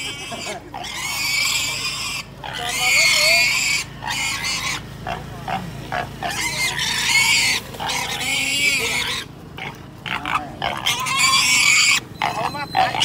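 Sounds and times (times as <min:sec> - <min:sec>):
pig squealing: 0:00.0 - 0:13.0.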